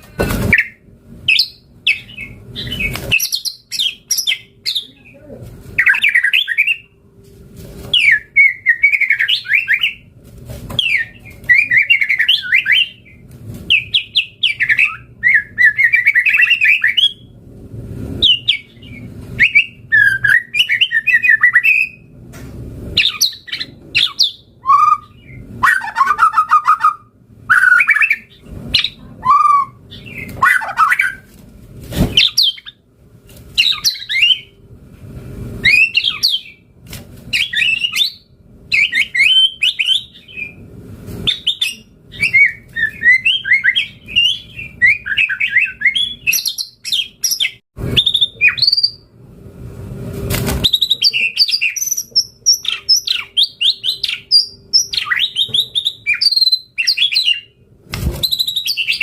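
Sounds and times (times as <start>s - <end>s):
bird singing trilled song: 0.5s - 5.1s, 5.8s - 6.9s, 8.0s - 10.1s, 10.8s - 17.3s, 18.2s - 22.1s, 23.0s - 31.2s, 33.6s - 34.5s, 35.6s - 36.7s, 37.3s - 40.6s, 41.3s - 49.0s, 50.7s - 57.6s, 58.2s - 59.0s.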